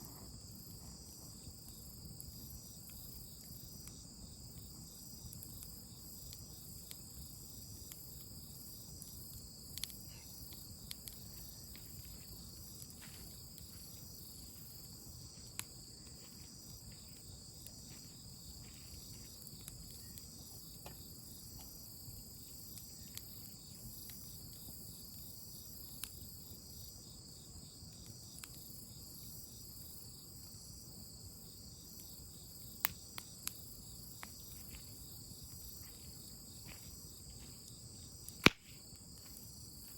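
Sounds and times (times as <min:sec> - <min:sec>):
crickets and insects chirping: 0:00.0 - 0:39.9
campfire crackling and popping: 0:00.4 - 0:39.9.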